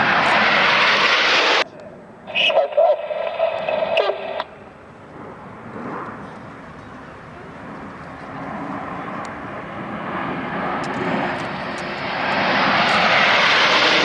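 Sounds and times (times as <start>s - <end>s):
jet engines approaching: 0.0s - 14.0s.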